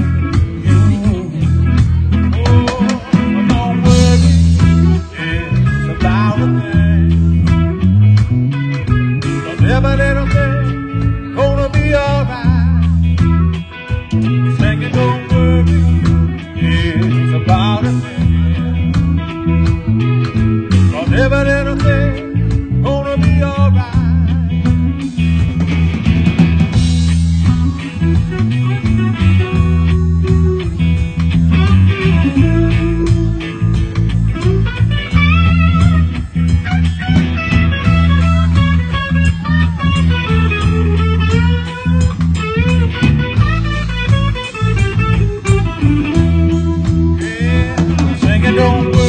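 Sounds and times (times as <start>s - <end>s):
bass guitar: 0.0s - 49.0s
electric guitar lead: 0.0s - 49.0s
reggae band playing: 0.0s - 49.0s
steady drum beat: 0.0s - 49.0s.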